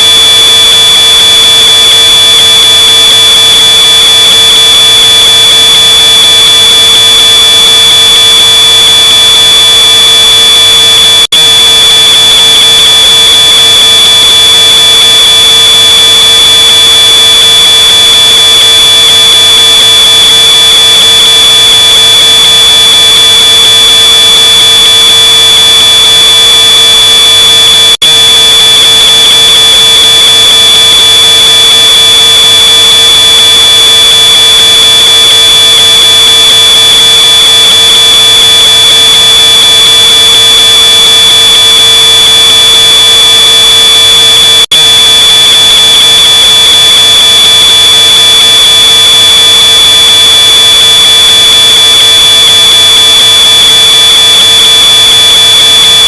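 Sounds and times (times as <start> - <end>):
distorted smoke alarm tone: 0.0 - 56.0.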